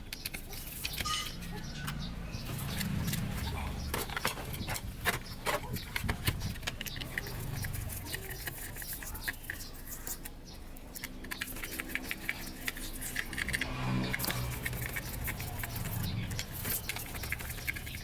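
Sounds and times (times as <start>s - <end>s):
metal parts and tools clicking: 0.0s - 18.0s.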